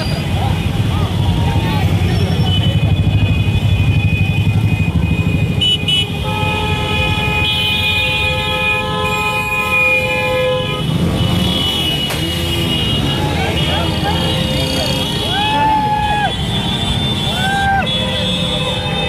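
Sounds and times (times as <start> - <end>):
motorcycle engines running: 0.0 - 8.3, 10.7 - 19.0
horns honking: 0.0 - 19.0.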